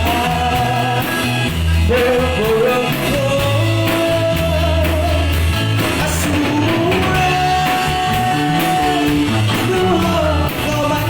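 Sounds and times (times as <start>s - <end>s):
lead vocal singing long notes: 0.0s - 11.0s
rock band playing: 0.0s - 11.0s.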